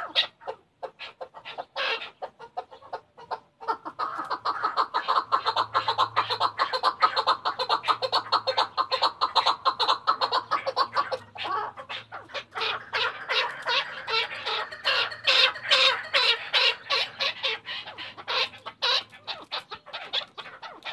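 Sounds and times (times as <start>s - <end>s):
partridge chuck calls: 0.0s - 20.9s.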